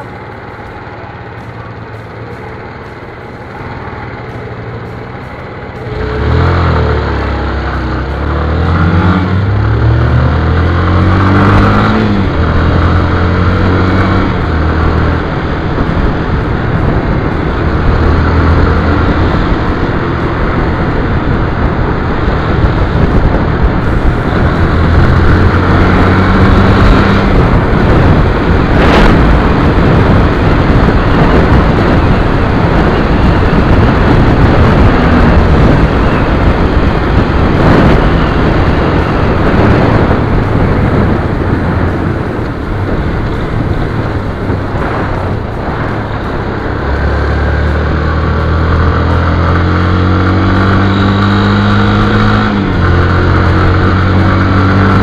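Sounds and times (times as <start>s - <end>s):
motorcycle engine accelerating: 0.0s - 55.0s
wind rush on microphone: 0.0s - 55.0s.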